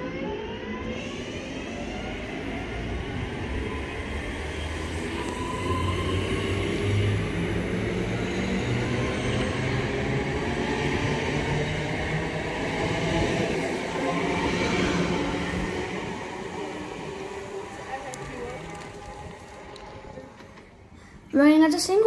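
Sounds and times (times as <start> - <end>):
wheels rumbling on rails: 2.8 - 20.8.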